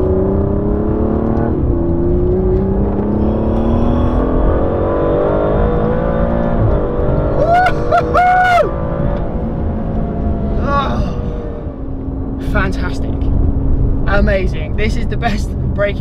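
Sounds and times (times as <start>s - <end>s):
car engine accelerating hard: 0.0s - 14.3s.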